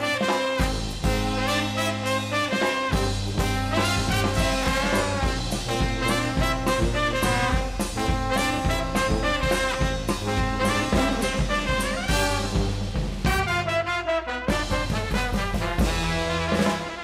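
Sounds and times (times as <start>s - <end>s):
bass drum with cymbal: 0.0s - 17.0s
brass band playing: 0.0s - 17.0s
snare drum: 0.0s - 17.0s.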